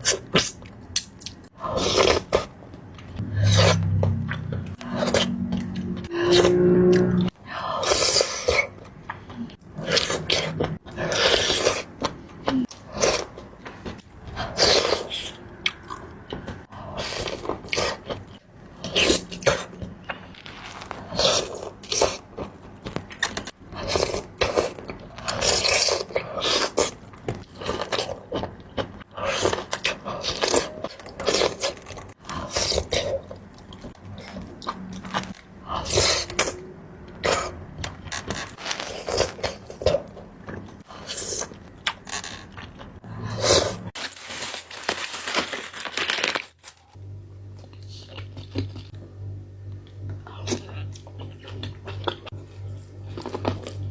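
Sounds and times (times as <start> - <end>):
wet chewing and crunching: 0.0 - 49.1, 49.8 - 53.9.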